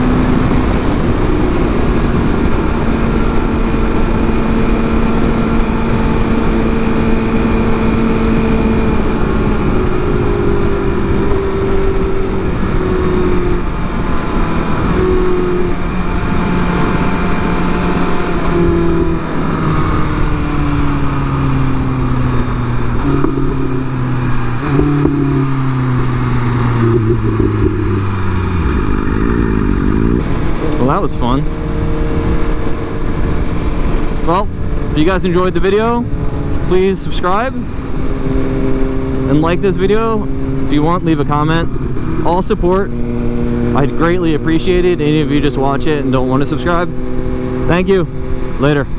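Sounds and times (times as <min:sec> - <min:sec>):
heavy wind noise: 0:00.0 - 0:48.9
motorcycle engine downshifting: 0:00.0 - 0:48.9.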